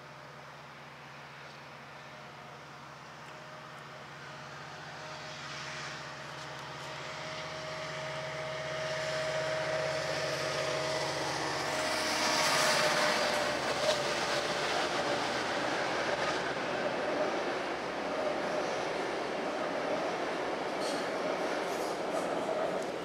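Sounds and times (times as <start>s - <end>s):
diesel locomotive engine hum: 0.0s - 23.0s
train rolling on rails: 0.0s - 23.0s.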